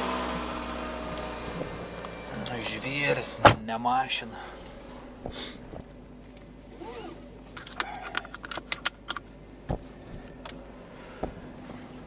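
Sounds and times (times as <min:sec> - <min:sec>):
steady low hum: 0:00.4 - 0:12.0.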